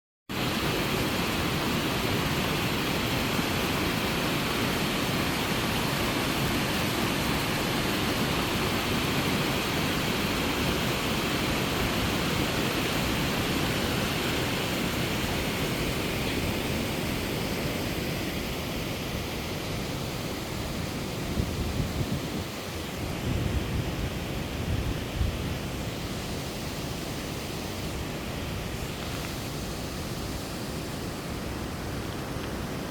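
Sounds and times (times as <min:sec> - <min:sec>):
stream water rushing: 0:00.3 - 0:32.9.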